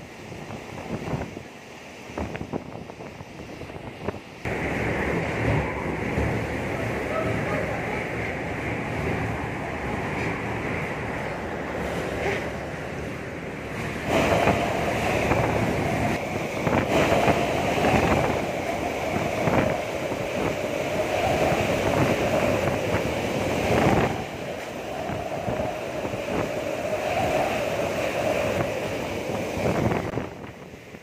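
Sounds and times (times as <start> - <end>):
strong gusting wind: 0.0 - 31.0
wind rumble on microphone: 0.0 - 31.0.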